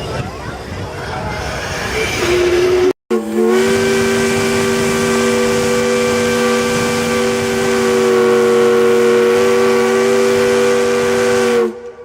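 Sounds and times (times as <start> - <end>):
steam whistle blowing: 1.8 - 12.0.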